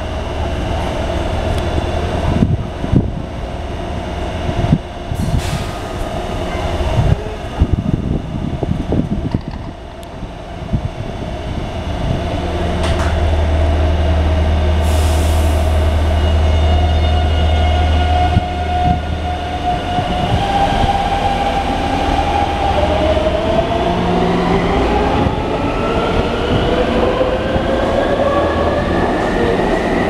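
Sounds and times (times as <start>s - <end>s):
train running noise: 0.0s - 30.0s.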